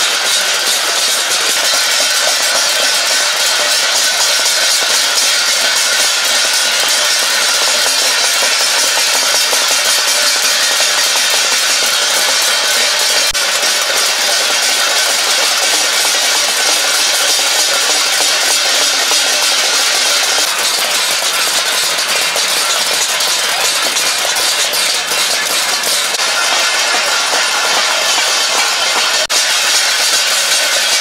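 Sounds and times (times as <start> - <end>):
steel plates banging: 0.0 - 31.0.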